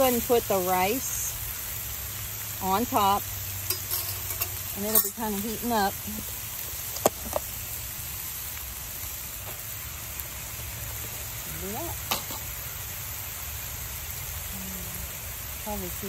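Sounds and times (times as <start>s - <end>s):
food sizzling in a skillet: 0.0s - 16.0s.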